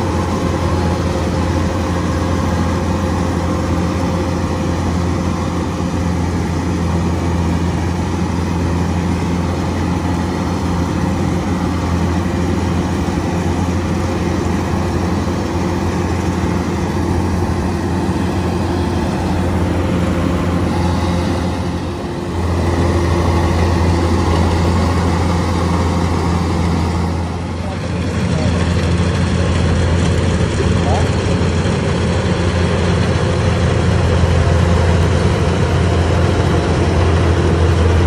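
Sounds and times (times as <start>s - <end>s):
combine harvester diesel engine humming: 0.0s - 38.0s.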